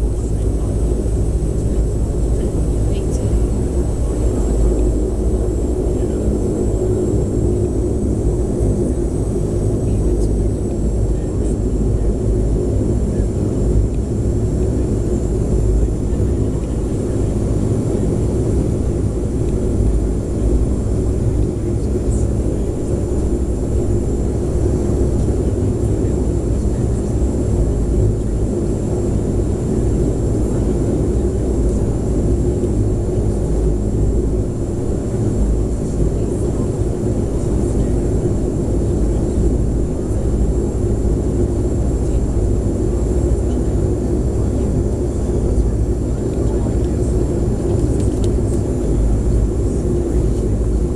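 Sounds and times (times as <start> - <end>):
aircraft engines droning: 0.0 - 50.9.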